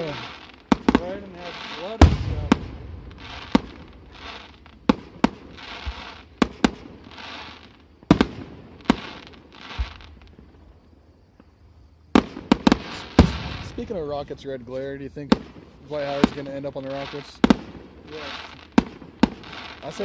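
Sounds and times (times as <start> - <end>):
fireworks bangs: 0.0 - 20.0
fireworks hiss: 0.0 - 20.0.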